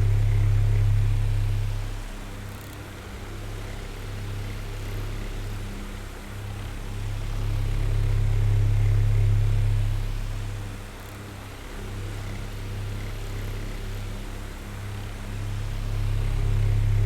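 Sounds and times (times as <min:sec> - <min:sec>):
electric fan motor hum: 0:00.0 - 0:17.0.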